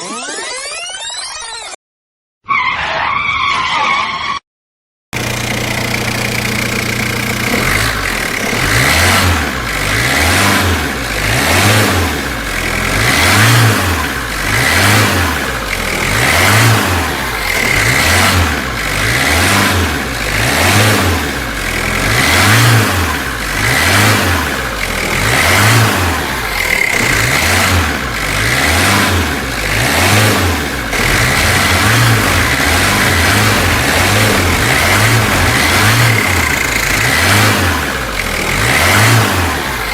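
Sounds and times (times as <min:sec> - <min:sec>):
diesel engine revving: 0:05.2 - 0:39.9.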